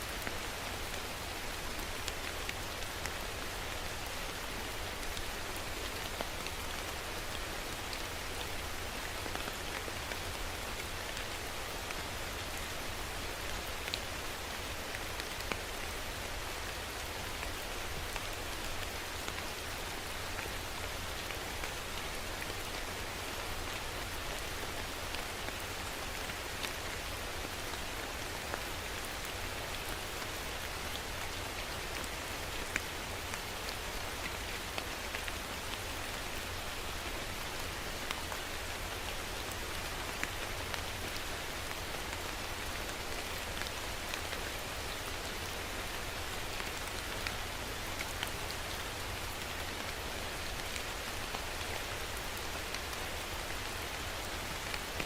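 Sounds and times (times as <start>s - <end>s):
steady rain hiss: 0.0s - 55.0s
raindrops ticking on a surface: 0.1s - 55.0s.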